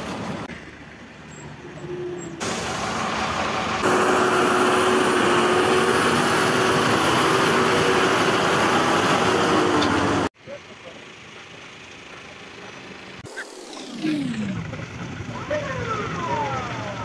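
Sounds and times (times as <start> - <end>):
truck engines running: 0.0 - 17.0.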